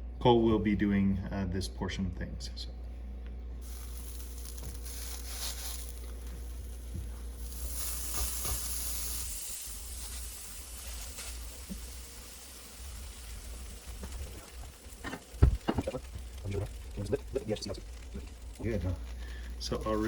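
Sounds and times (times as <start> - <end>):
low steady hum: 0.0 - 20.0
buns sizzling on a griddle: 3.6 - 20.0.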